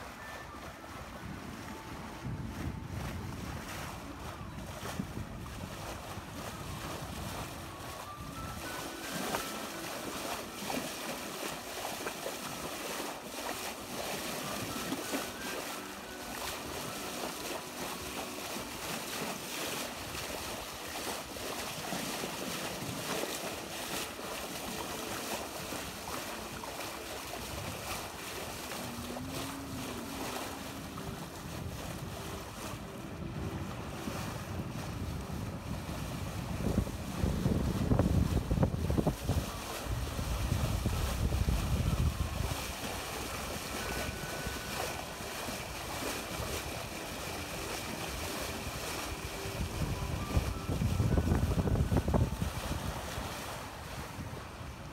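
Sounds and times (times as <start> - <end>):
water rushing along boat hull: 0.0 - 54.9
wind on microphone: 0.0 - 54.9.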